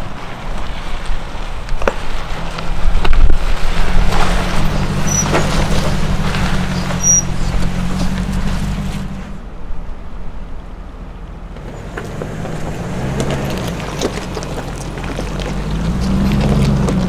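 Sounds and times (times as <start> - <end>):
tyres crunching over gravel: 0.0 - 9.6, 10.5 - 17.0
suv engine running: 0.0 - 17.0.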